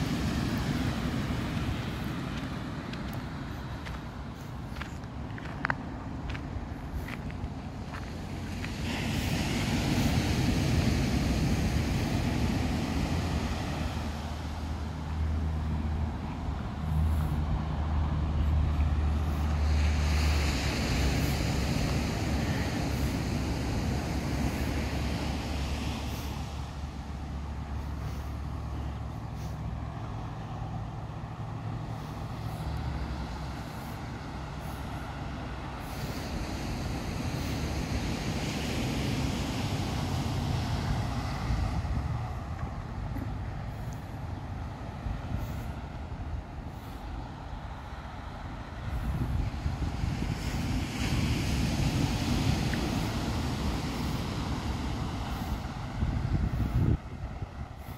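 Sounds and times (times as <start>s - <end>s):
low rumble of road traffic: 0.0s - 57.9s
ocean surf washing onto beach: 0.0s - 57.9s.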